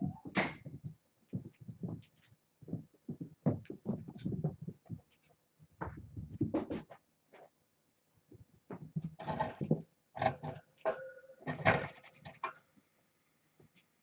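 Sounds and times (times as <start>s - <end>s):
scratching and rustling: 0.2s - 7.6s, 8.3s - 10.9s, 11.5s - 12.8s.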